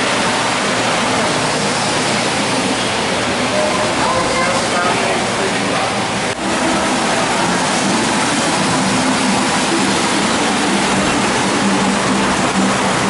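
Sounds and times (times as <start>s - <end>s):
low wavering hum: 0.0s - 13.0s
rushing din of exhibit hall: 0.0s - 13.0s.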